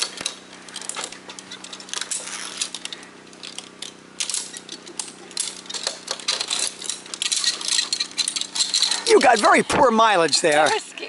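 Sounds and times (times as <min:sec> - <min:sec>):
metal carabiners clinking: 0:00.0 - 0:11.0.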